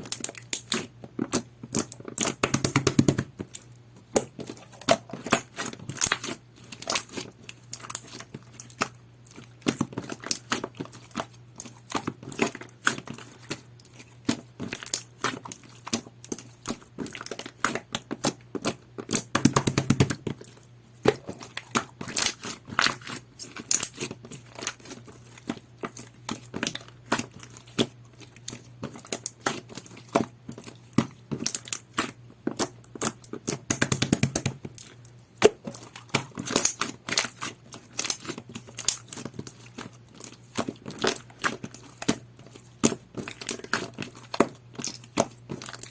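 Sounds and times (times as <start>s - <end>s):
slime squished by hand: 0.0s - 45.9s.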